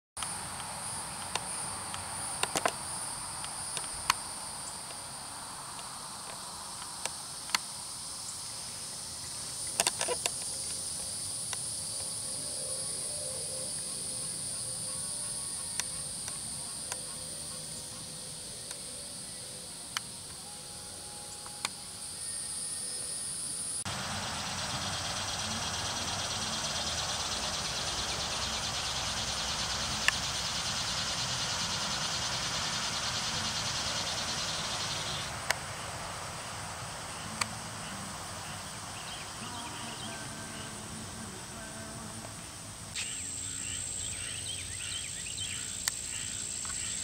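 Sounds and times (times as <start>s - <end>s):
insect trilling: 0.2s - 47.0s.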